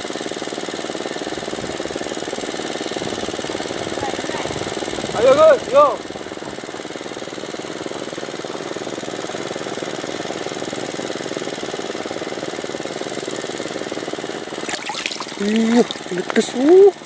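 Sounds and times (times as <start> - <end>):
small engine knocking: 0.0 - 14.7.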